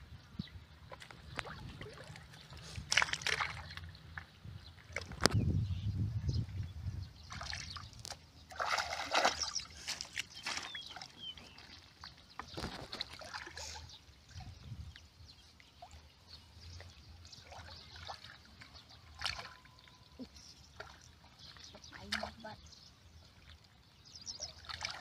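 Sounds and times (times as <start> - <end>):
muddy water splashing: 0.8 - 5.4, 7.2 - 25.0.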